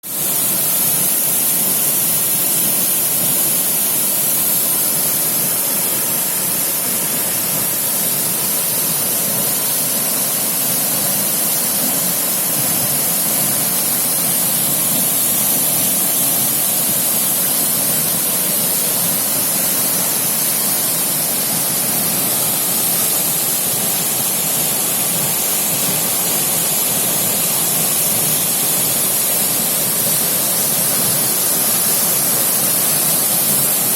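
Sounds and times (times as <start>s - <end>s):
waterfall rushing into stream: 0.0s - 33.9s.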